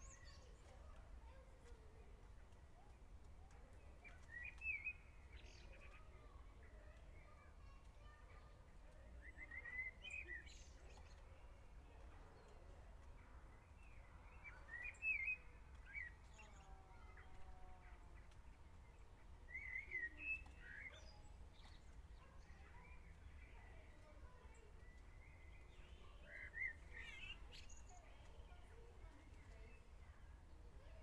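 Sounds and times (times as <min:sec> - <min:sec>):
faint bird chirps: 0:02.8 - 0:11.6, 0:12.4 - 0:31.0.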